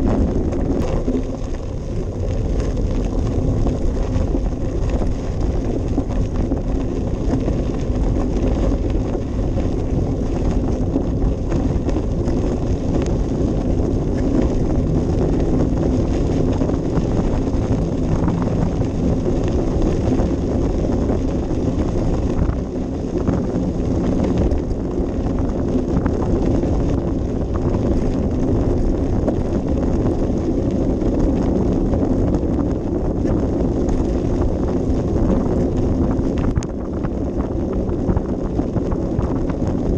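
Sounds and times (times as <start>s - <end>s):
bicycle rattles and clicks: 0.0s - 39.9s
wind buffeting microphone: 0.0s - 39.9s.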